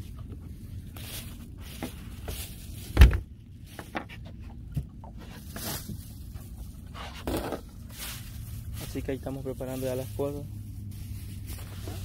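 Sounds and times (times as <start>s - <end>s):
rustling and scraping: 0.0s - 12.0s.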